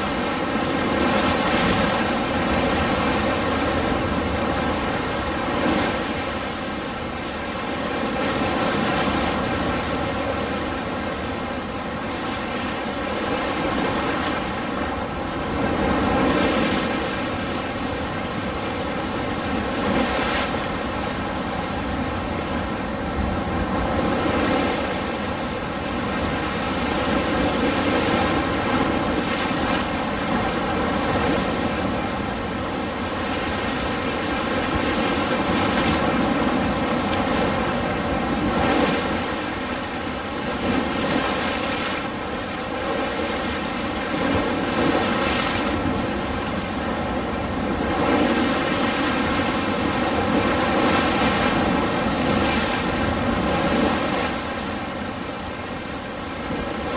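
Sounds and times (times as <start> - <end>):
ocean waves washing: 0.0 - 56.9.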